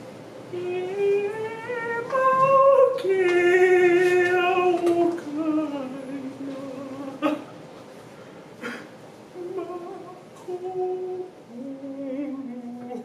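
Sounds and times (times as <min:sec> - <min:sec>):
person singing unaccompanied: 0:00.5 - 0:07.5, 0:09.4 - 0:13.0.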